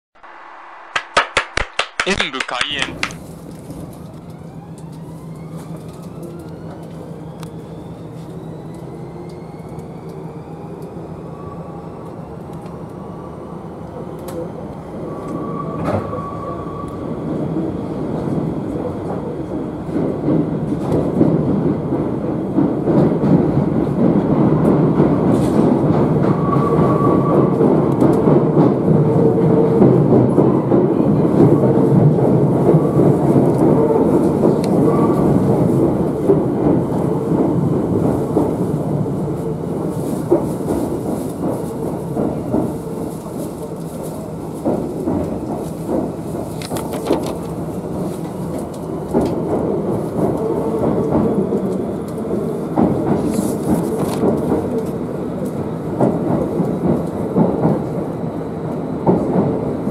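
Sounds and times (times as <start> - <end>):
train wheels running on rails: 0.3 - 11.0, 13.9 - 59.9.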